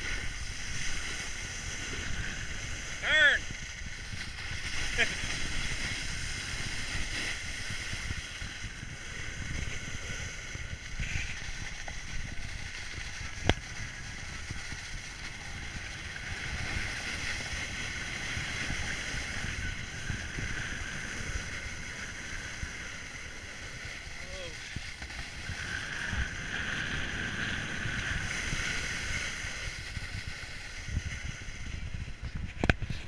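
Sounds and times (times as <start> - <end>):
skis sliding on packed snow: 0.0 - 33.0
wind on microphone: 0.0 - 33.0.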